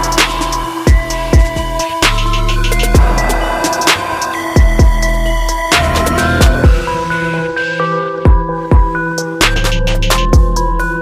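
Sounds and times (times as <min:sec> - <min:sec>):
electronic music with bass kicks: 0:00.0 - 0:11.0.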